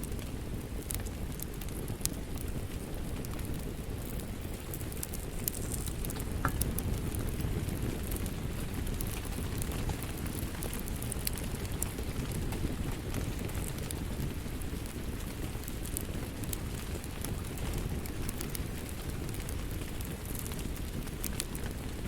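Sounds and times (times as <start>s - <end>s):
rain pattering: 0.0s - 22.0s
wood fire crackling: 0.0s - 22.0s.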